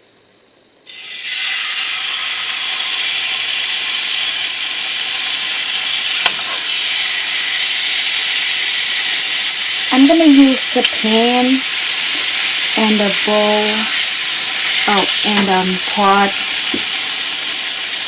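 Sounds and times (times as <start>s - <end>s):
meat sizzling in a hot pan: 0.9s - 18.0s.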